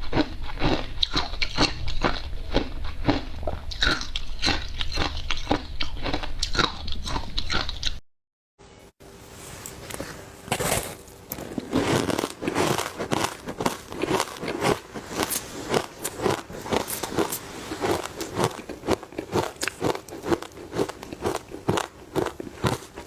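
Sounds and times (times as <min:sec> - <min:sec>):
ice being chewed: 0:00.0 - 0:08.0, 0:10.5 - 0:23.0.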